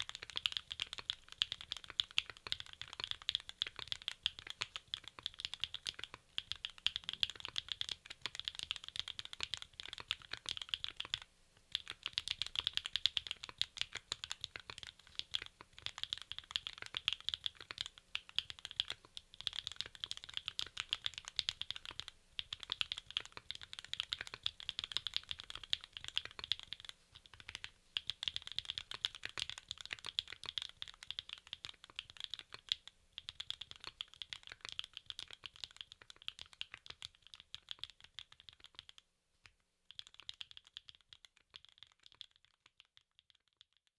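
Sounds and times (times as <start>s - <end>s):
fast typing on mechanical keyboard: 0.0s - 39.0s, 39.9s - 43.8s.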